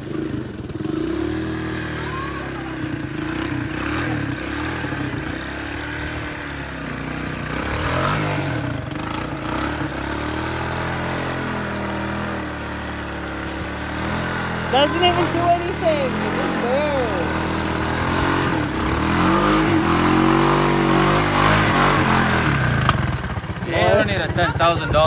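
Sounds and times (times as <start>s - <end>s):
engine revving in mud: 0.0s - 25.0s.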